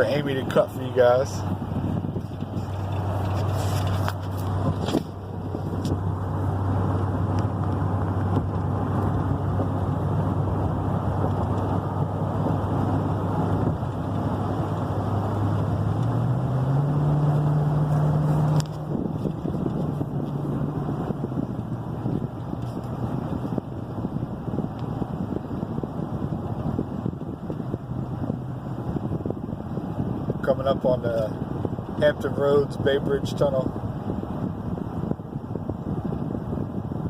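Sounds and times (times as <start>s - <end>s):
low engine drone: 0.0s - 37.0s
road and tyre noise: 0.0s - 37.0s.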